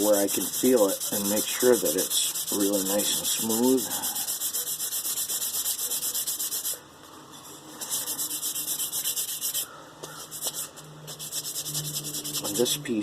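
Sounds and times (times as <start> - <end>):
sandpaper sanding wood: 0.0 - 6.8, 7.8 - 12.8.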